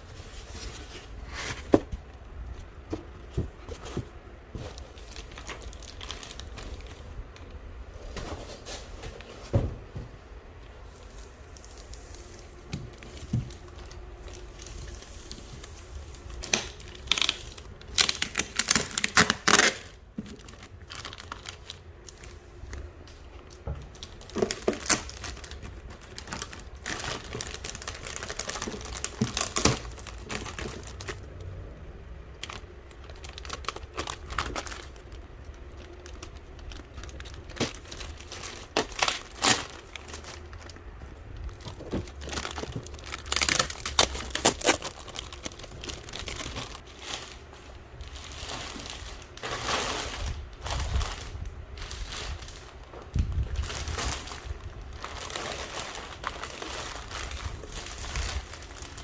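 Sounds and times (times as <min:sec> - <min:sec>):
packaging crinkling and rustling: 0:00.0 - 0:59.0.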